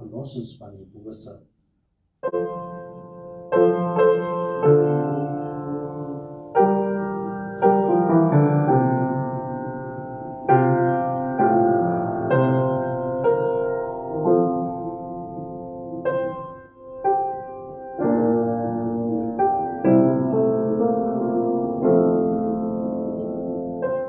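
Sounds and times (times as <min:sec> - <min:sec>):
slow piano chords: 0:02.2 - 0:24.0.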